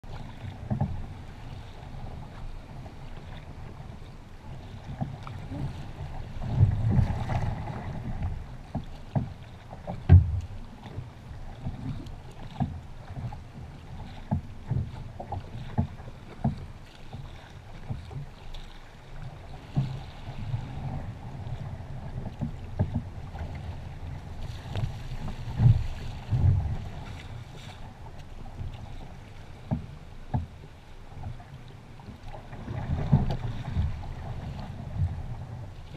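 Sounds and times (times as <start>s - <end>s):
paddle splashing in water: 0.0s - 35.9s
water slapping hull: 0.0s - 35.9s
wind rumble on microphone: 0.0s - 35.9s.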